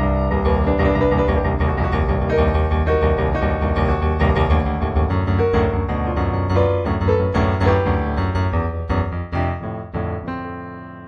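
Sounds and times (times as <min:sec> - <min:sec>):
improvised piano music: 0:00.0 - 0:11.0.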